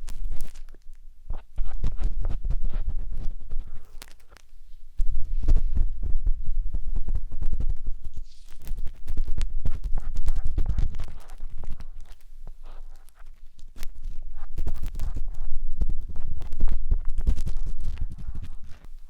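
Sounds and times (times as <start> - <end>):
matchstick scraping in microphone ear: 0.0 - 5.9, 7.0 - 19.0.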